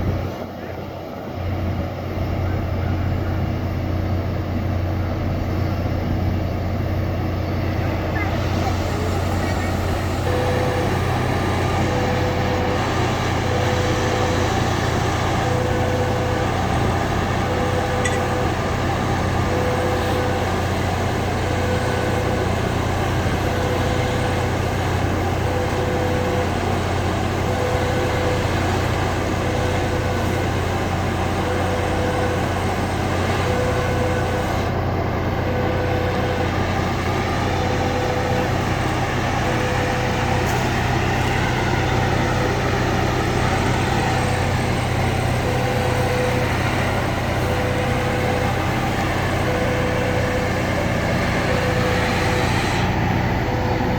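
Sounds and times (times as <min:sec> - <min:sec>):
machinery engine running: 0:00.0 - 0:53.9
warning beeper: 0:07.9 - 0:34.8, 0:35.4 - 0:53.9.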